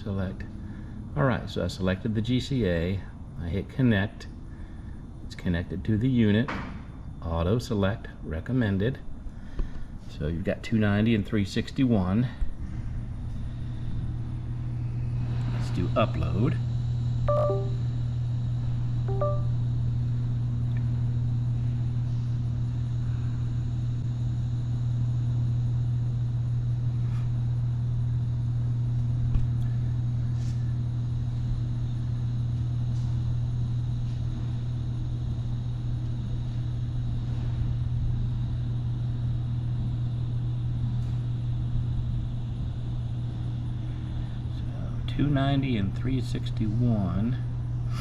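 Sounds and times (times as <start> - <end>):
low machine hum: 0.0 - 48.0.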